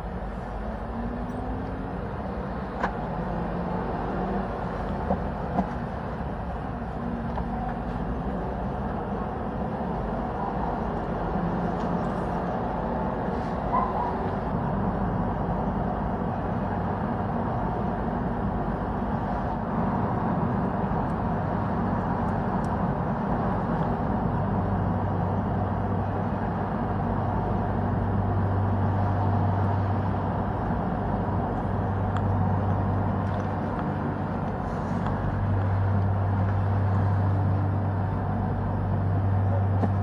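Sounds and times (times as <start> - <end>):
vehicle rumble with low hum: 0.0 - 40.0.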